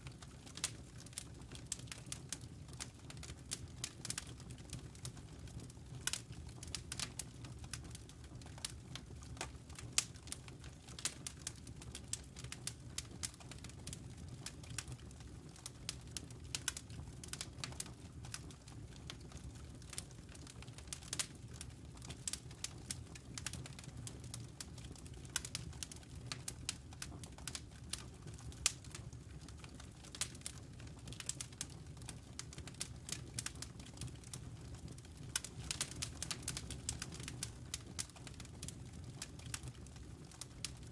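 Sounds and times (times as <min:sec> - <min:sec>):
campfire crackling: 0:00.0 - 0:40.9
low rumble of fire: 0:00.0 - 0:40.9.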